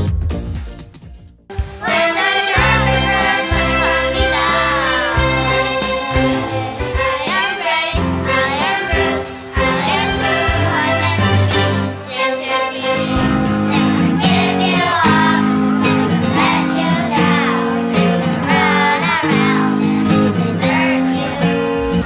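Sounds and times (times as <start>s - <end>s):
instrumental accompaniment: 0.1s - 22.0s
children's choir singing: 1.8s - 22.0s.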